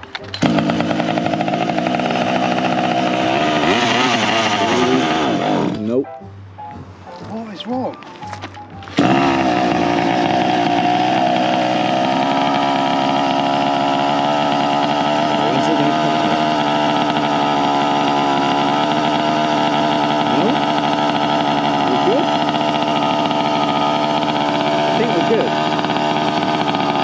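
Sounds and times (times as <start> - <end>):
two-stroke engine running steadily: 0.0 - 6.0, 8.2 - 27.0.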